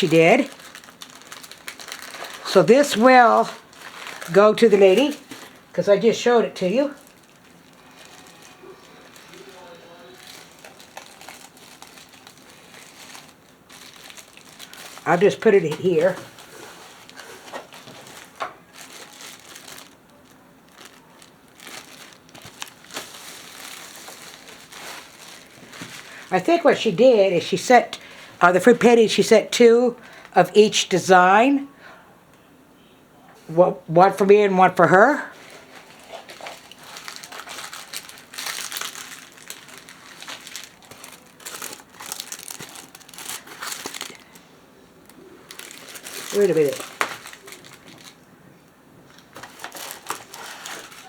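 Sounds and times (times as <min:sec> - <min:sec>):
plastic packaging crinkling: 0:00.0 - 0:29.2, 0:34.6 - 0:48.4, 0:49.1 - 0:51.0.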